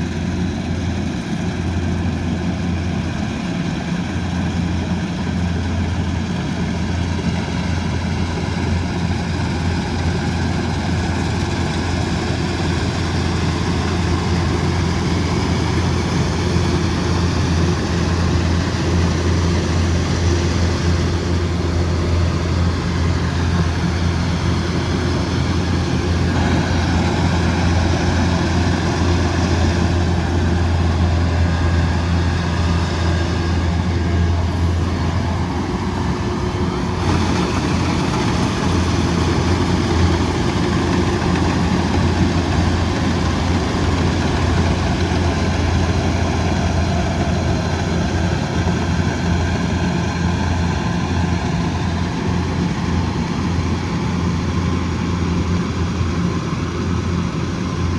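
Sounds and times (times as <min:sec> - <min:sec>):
combine harvester engine humming: 0:00.0 - 0:57.9.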